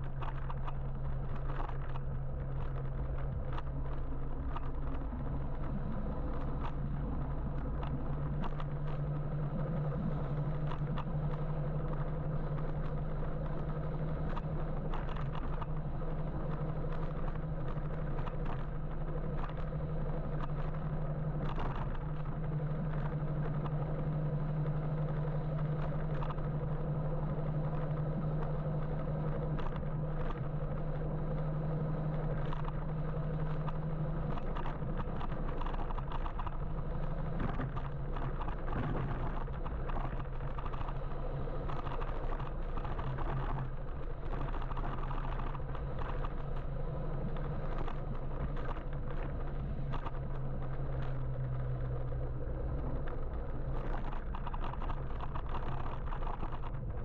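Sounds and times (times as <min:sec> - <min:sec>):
light clicks and rattles: 0:00.0 - 0:57.0
low steady hum: 0:00.0 - 0:57.0
road and traffic noise: 0:00.0 - 0:57.0.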